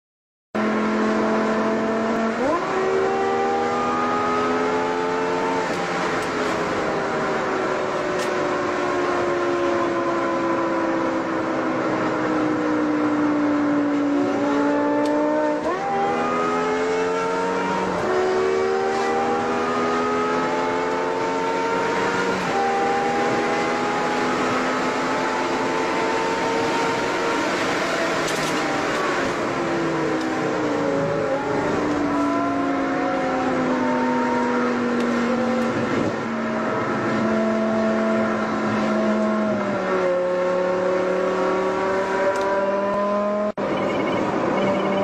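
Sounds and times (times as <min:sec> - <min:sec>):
car engine revving in cabin: 0:00.6 - 0:45.0.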